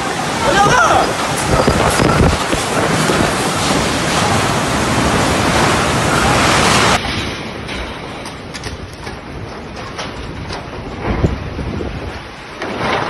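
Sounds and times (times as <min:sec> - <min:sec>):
heavy rain: 0:00.0 - 0:13.0
storm wind: 0:00.0 - 0:13.0.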